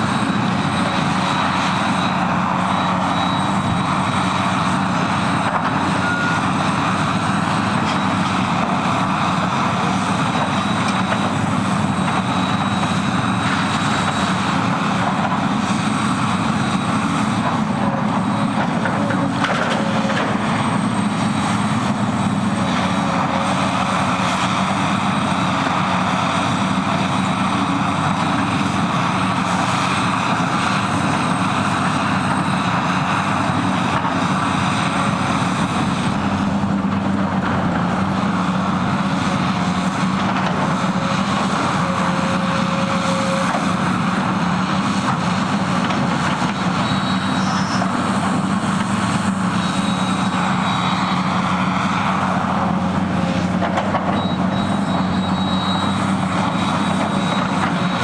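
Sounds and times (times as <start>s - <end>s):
excavator diesel engines droning: 0.0s - 58.0s.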